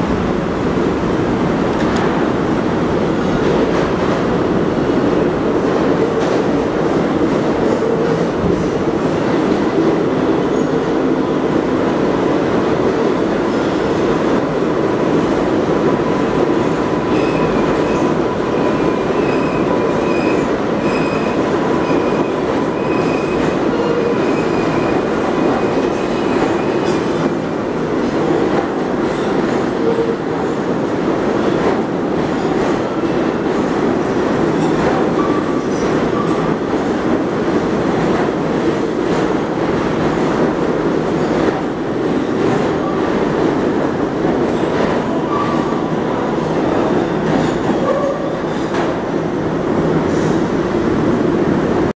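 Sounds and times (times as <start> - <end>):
subway train rumbling: 0.0 - 52.0.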